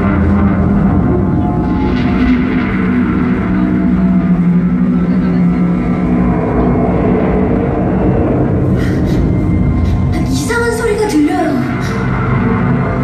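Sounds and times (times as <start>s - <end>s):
ambient drone music over loudspeakers: 0.0s - 13.0s
steady low rumble: 0.0s - 13.0s.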